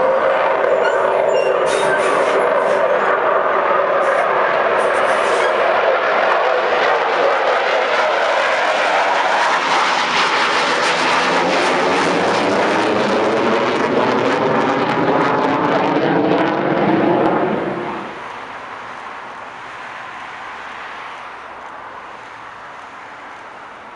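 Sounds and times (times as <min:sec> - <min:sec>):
fighter jet engines roaring: 0:00.0 - 0:23.9.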